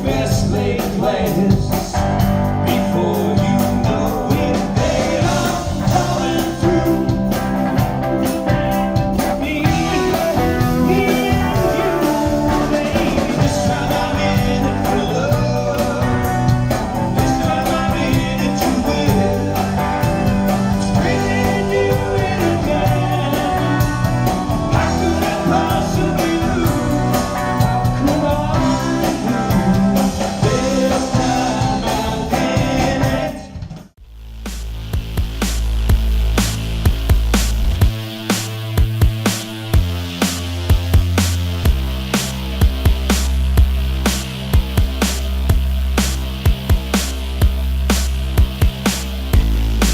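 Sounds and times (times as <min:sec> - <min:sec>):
band playing rock music: 0:00.0 - 0:49.9.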